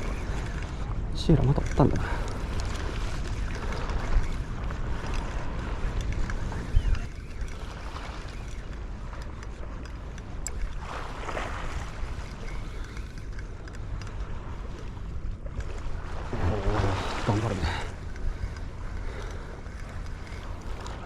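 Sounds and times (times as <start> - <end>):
sea waves: 0.0 - 21.0
wind buffeting microphone: 0.0 - 21.0.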